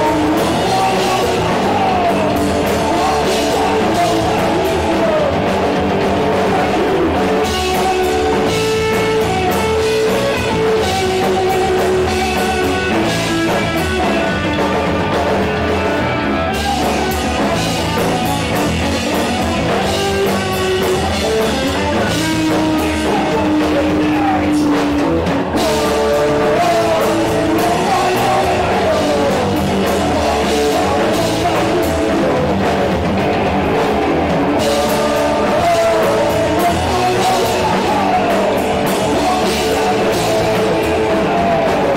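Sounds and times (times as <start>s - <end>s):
person singing: 0.0s - 33.1s, 33.7s - 41.9s
drum kit: 0.0s - 41.9s
electric guitar: 0.0s - 41.9s.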